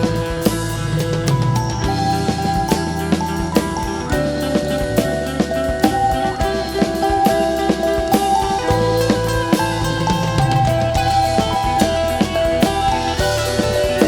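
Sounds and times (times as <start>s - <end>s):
bass notes: 0.0s - 14.0s
drum kit beat: 0.0s - 14.0s.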